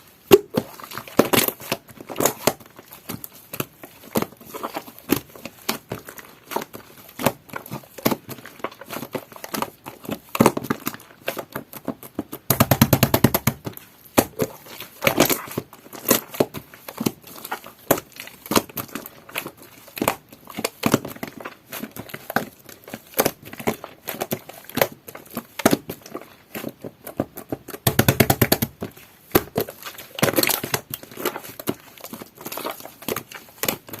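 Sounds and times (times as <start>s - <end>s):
hands squishing slime: 0.0s - 34.0s.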